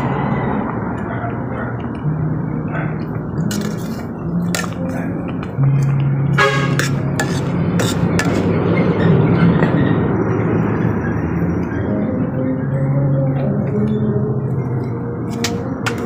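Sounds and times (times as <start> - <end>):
background music: 1.5 - 16.0.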